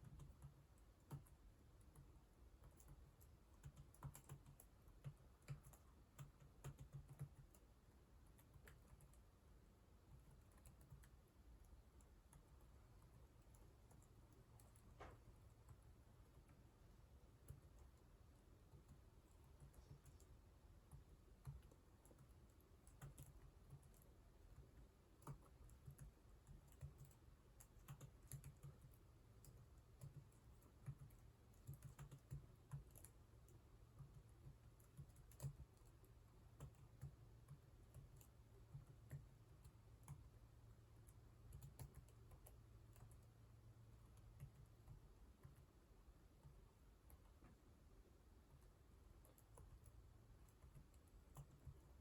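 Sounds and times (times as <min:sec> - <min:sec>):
keyboard typing: 0:00.0 - 0:09.3, 0:10.1 - 0:16.6, 0:17.3 - 0:40.3, 0:40.9 - 0:47.6, 0:48.4 - 0:52.0
low steady hum: 0:00.0 - 0:52.0.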